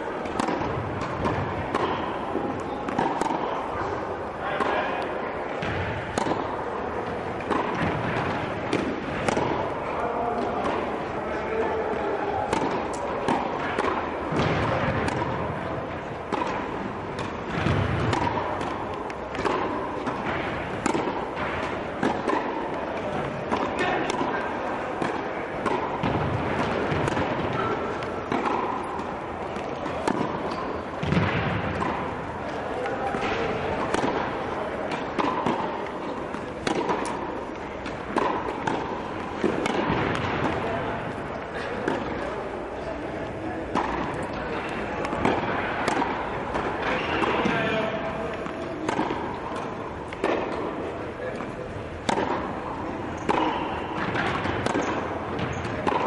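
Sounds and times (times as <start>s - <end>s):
tennis balls bouncing on court: 0.0s - 56.0s
tennis balls hit by rackets: 0.0s - 56.0s.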